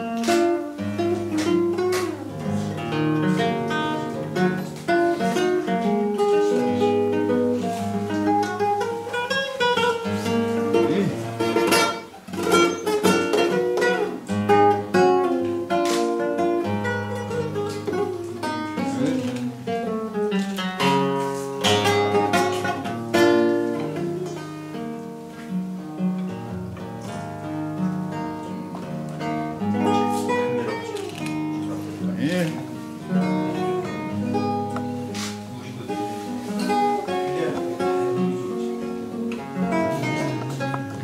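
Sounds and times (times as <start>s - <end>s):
fingerstyle classical guitar: 0.0s - 41.0s.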